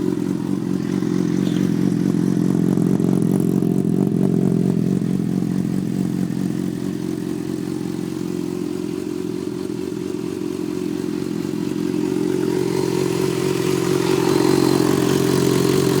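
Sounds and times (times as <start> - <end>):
engine ticking: 0.0 - 16.0
motorcycle engine running: 0.0 - 16.0.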